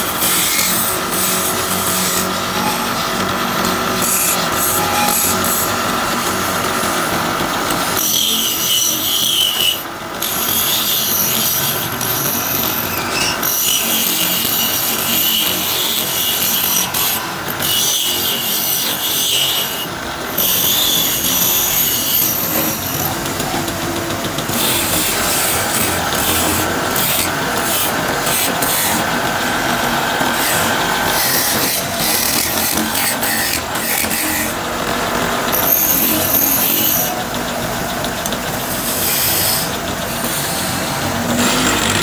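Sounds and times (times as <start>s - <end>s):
wood lathe spinning: 0.0s - 42.0s.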